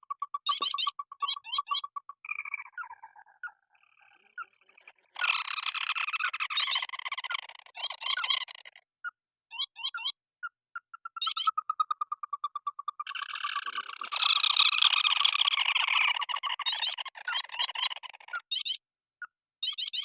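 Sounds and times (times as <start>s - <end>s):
fast croaking bird chorus: 0.0s - 8.8s, 10.8s - 18.8s.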